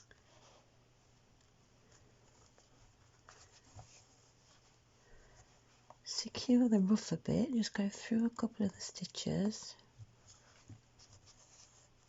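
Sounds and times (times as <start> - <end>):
faint rustling of yarn: 0.0 - 12.0.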